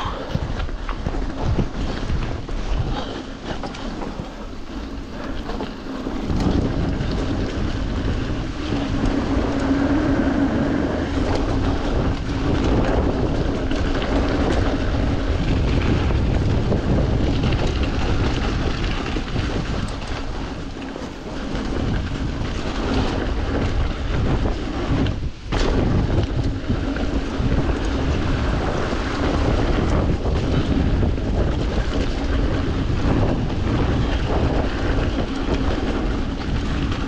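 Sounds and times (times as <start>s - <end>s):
bike rattling over ground: 0.0s - 37.0s
bike tyres rolling through mud: 0.0s - 37.0s
wind on microphone: 0.0s - 37.0s.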